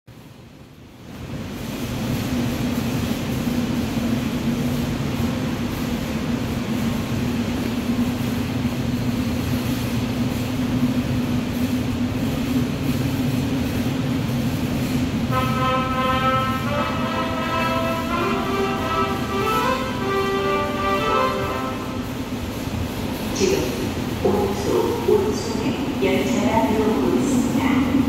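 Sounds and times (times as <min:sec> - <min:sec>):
subway train rumbling: 0:00.1 - 0:28.0
constant low hum: 0:00.4 - 0:27.9.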